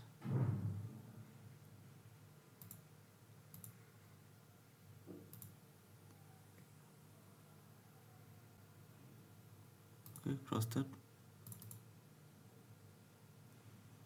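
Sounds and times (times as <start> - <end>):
low room tone hum: 0.0 - 14.0.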